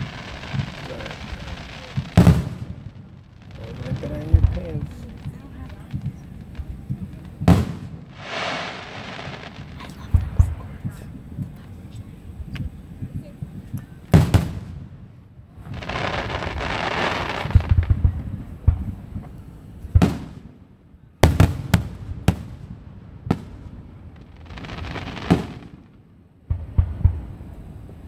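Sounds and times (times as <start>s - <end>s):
fireworks hissing: 0.0s - 20.5s, 23.3s - 26.0s
fireworks bangs: 0.0s - 20.6s, 21.2s - 28.0s.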